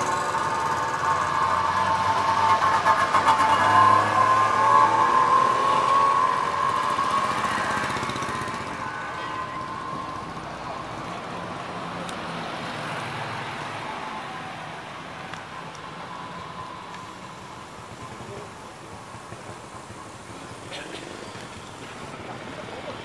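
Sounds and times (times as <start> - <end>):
bus passing: 0.0 - 23.0
engine whine: 0.0 - 23.0
truck engine pulling away: 0.0 - 23.0.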